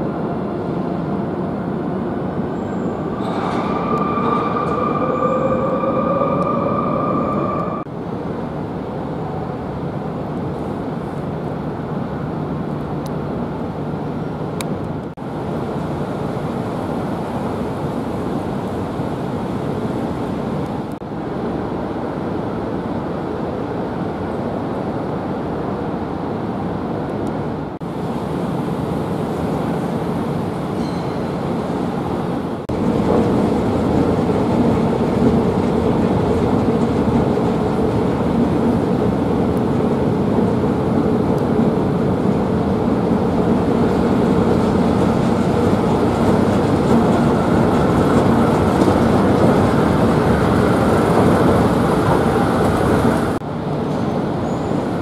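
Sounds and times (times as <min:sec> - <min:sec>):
train running noise: 0:00.0 - 0:55.0.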